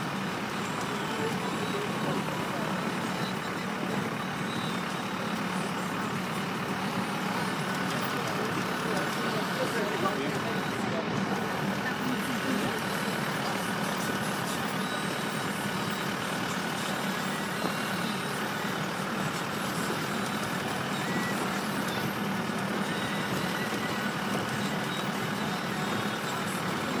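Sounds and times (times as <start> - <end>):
van engine and road noise: 0.0 - 27.0.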